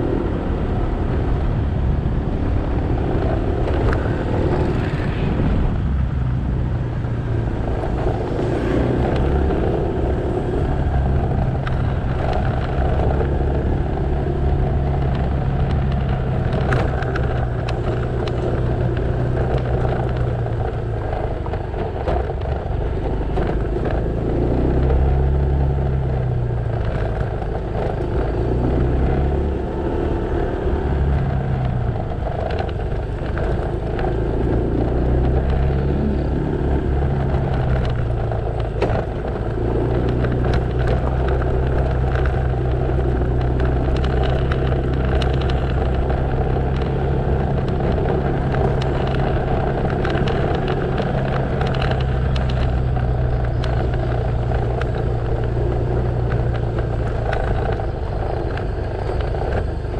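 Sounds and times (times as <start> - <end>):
motorcycle engine running: 0.0 - 59.9
road and traffic noise: 0.0 - 59.9.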